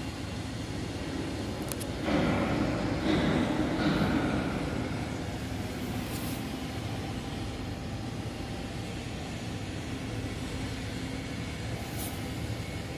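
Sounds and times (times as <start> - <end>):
faint hum: 0.0 - 12.9
low machinery rumble: 0.0 - 12.9.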